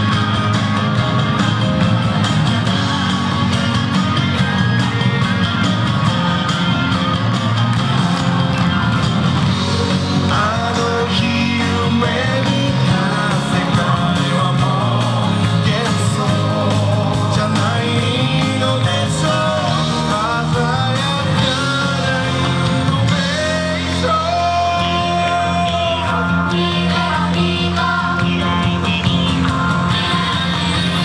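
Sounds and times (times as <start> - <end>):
pop song with guitar and singing: 0.0 - 31.0.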